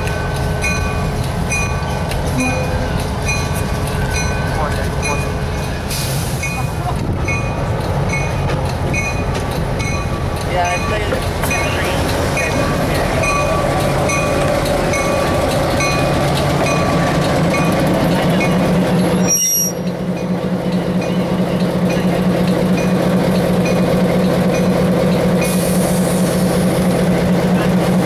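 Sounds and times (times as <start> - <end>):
locomotive bell ringing: 0.0 - 25.6
diesel locomotive engine drone: 0.0 - 28.0.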